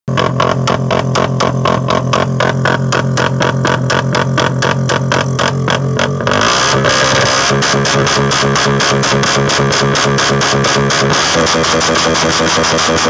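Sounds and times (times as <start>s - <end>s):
motorcycle engine running: 0.0s - 13.0s
exhaust backfire pops: 0.1s - 13.0s.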